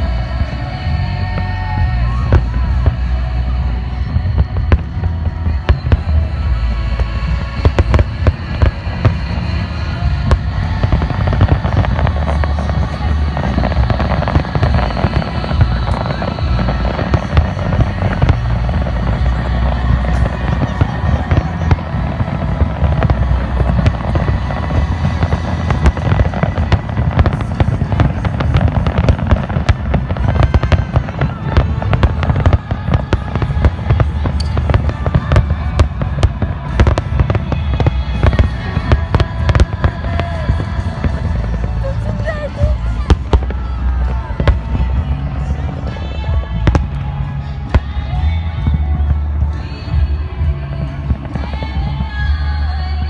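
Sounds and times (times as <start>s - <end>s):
fireworks bursting: 0.0s - 53.0s
music: 0.0s - 53.0s
voices: 0.0s - 53.0s.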